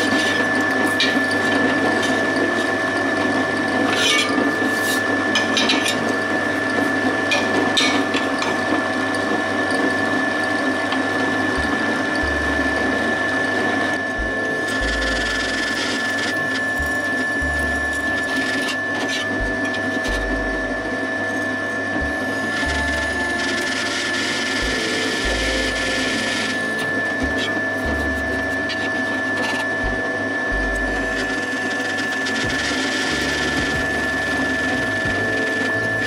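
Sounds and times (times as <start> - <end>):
electric motor whine: 0.0 - 36.0.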